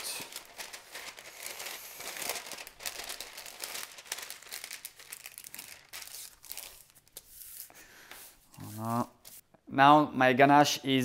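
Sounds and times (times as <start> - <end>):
parchment paper crinkling: 0.0 - 9.4.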